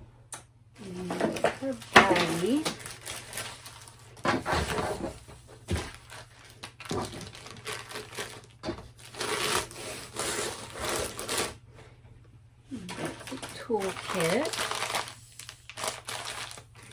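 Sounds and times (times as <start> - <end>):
plastic sleeve rustling: 0.8 - 11.6, 12.7 - 16.9.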